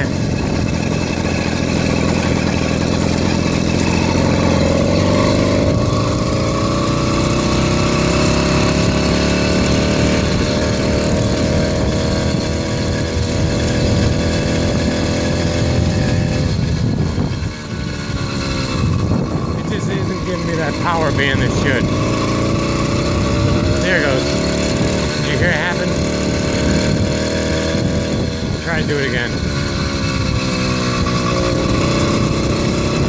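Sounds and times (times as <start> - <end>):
two-stroke engine running: 0.0 - 33.0.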